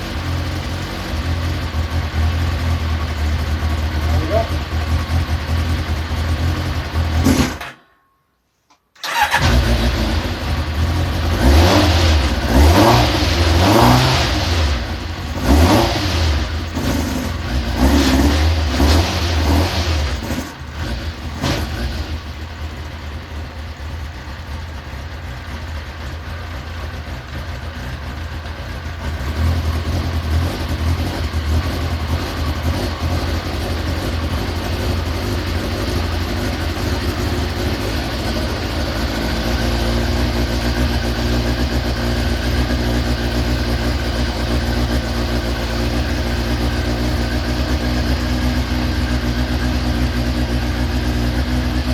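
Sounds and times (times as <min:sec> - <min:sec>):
engine revving and idling: 0:00.0 - 0:07.6, 0:09.0 - 0:51.9.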